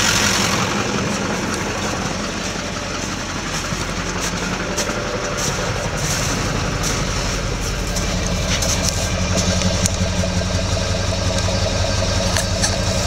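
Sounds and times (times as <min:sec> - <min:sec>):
diesel engine idling roughly: 0:00.0 - 0:13.0.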